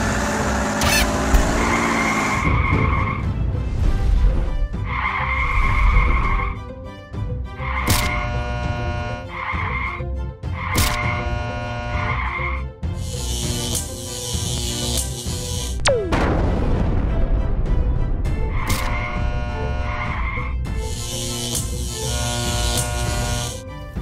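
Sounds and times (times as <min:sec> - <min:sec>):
high-pitched background music: 0:00.0 - 0:16.6, 0:17.5 - 0:24.0.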